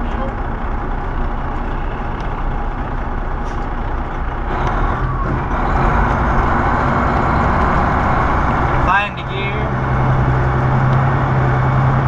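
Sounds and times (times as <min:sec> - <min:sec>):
truck engine drone in cab: 0:00.0 - 0:12.0.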